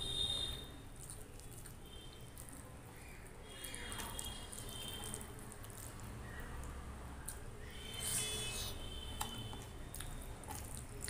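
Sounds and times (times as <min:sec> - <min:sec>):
fingers mixing wet rice: 0:00.4 - 0:07.8, 0:09.2 - 0:11.0.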